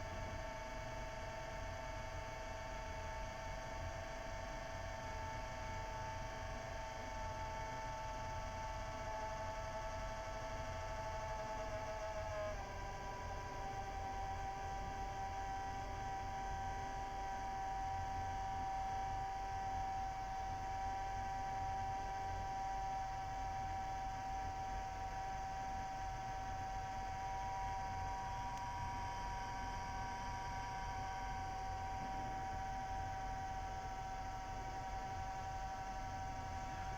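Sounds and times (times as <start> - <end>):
projector whining hum: 0.0 - 36.9.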